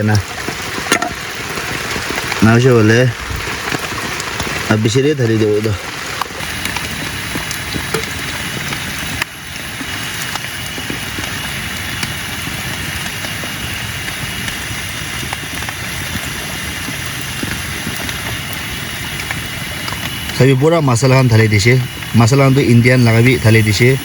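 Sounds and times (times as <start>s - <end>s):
heavy rain: 0.0s - 24.0s
rain drop taps: 0.0s - 24.0s.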